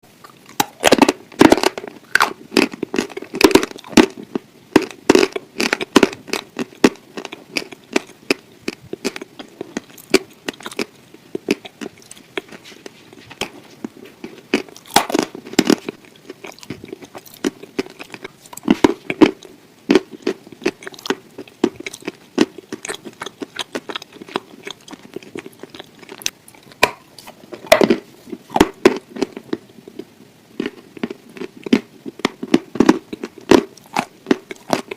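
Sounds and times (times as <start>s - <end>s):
chewing: 0.2s - 34.9s
crackling bites: 0.2s - 34.9s.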